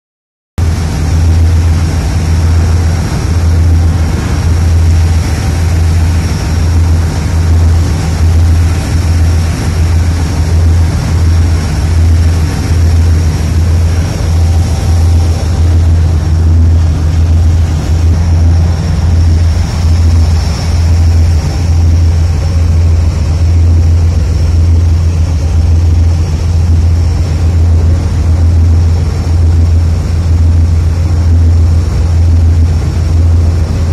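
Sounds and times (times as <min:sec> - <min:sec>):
ship engine drone: 0:00.6 - 0:33.9
water rushing along hull: 0:00.6 - 0:33.9
wind rumble: 0:00.6 - 0:33.9.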